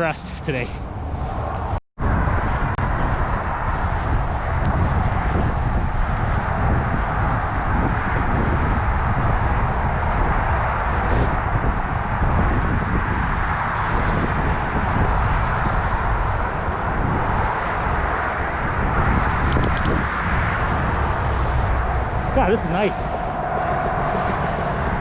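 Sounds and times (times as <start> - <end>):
bike tyres rolling on pavement: 2.2 - 22.4.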